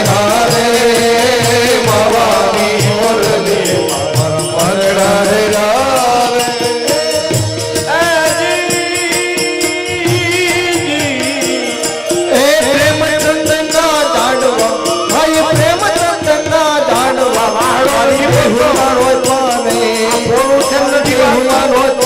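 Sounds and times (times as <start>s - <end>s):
rattling hand percussion: 0.0s - 22.0s
wavering devotional melody: 0.0s - 22.0s.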